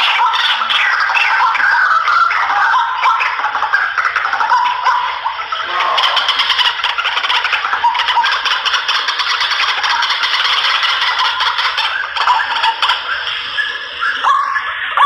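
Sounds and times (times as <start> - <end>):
recorded bird calls: 0.0 - 15.0.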